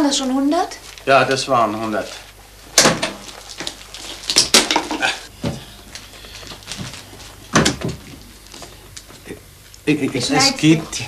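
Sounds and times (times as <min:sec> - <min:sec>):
plastic film rustling: 0:00.0 - 0:10.2.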